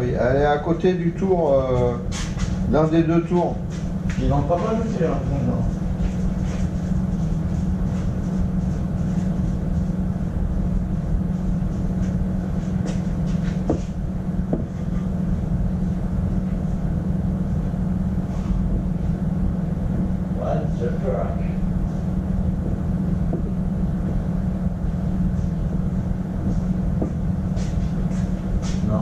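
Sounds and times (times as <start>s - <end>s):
workshop machinery droning: 0.0s - 29.0s.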